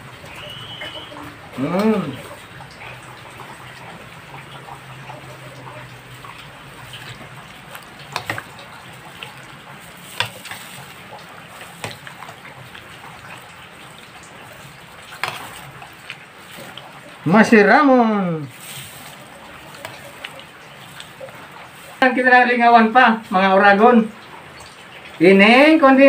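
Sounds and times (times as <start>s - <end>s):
wet squelching of stirred salad: 0.0s - 23.5s.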